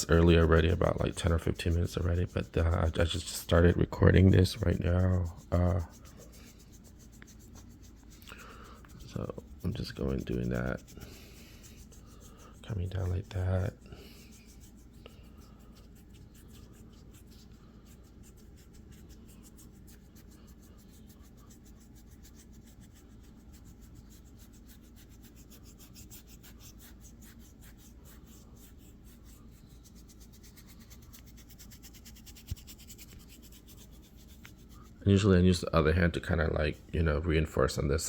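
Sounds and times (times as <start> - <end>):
fingers rubbing skin and clothing: 0.0 - 38.0.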